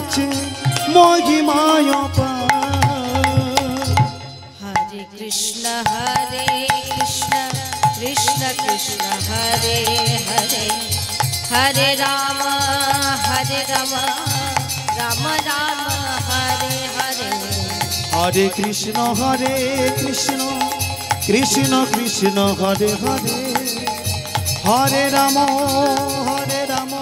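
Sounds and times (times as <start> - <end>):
hand drum: 0.0 - 27.0
harmonium held notes: 0.0 - 27.0
woman singing: 0.0 - 27.0.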